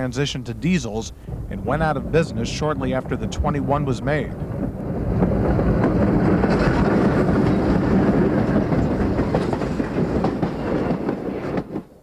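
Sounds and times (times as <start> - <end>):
diesel locomotive passing: 1.0 - 12.0
train wheels clattering on rails: 1.2 - 12.0.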